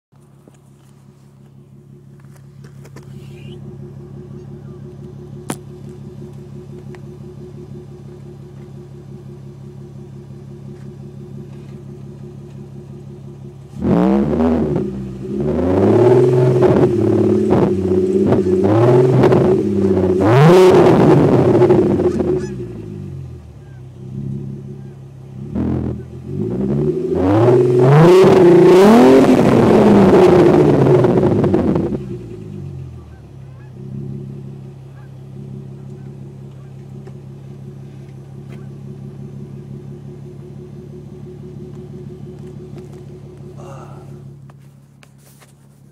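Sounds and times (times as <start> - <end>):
car engine idling and revving: 0.1 - 45.9.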